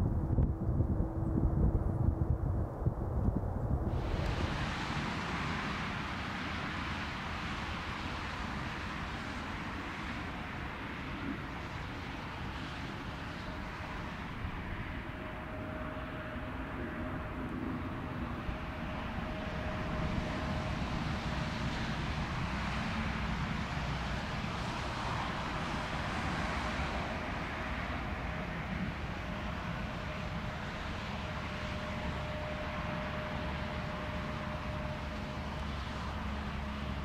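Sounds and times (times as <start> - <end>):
faint jet engine whine: 0.0 - 37.0
jet engines rumbling: 0.0 - 37.0.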